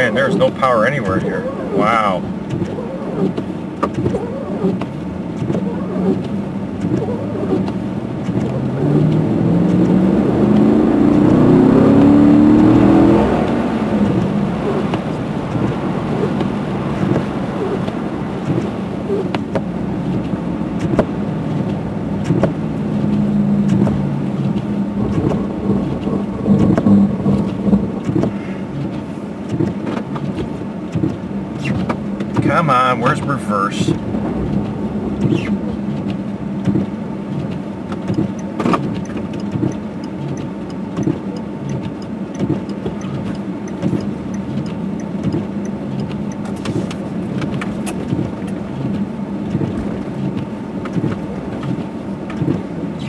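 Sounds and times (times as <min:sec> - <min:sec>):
road noise: 0:00.0 - 0:53.0
truck engine from inside cab: 0:00.0 - 0:53.0.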